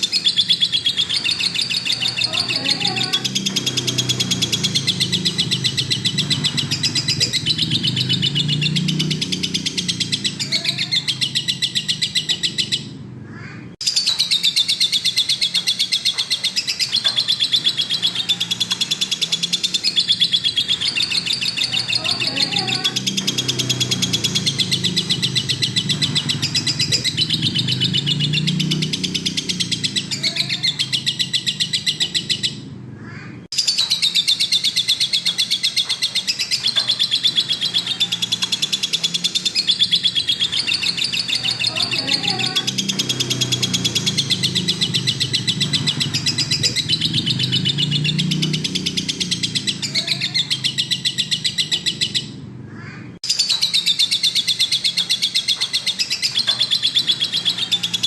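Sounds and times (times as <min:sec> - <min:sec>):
bird chattering song: 0:00.0 - 0:58.0.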